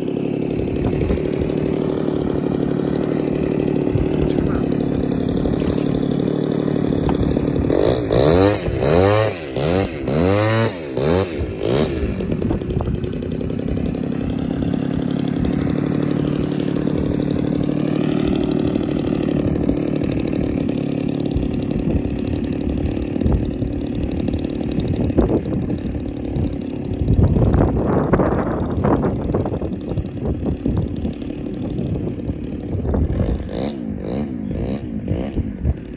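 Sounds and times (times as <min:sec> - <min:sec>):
model plane engine idling and revving: 0:00.0 - 0:35.9.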